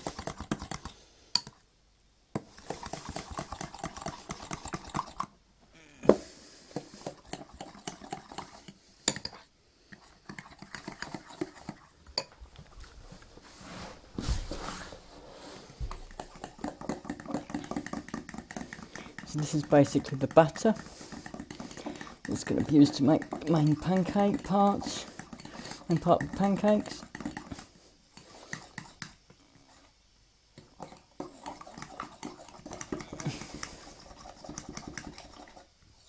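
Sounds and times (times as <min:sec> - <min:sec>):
utensil scraping a mixing bowl: 0:02.4 - 0:05.3, 0:06.8 - 0:12.0, 0:13.5 - 0:29.9, 0:30.6 - 0:36.0.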